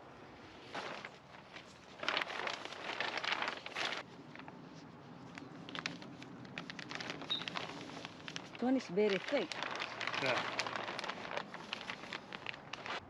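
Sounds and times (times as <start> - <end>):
plastic sheeting crinkling: 0.5 - 13.0.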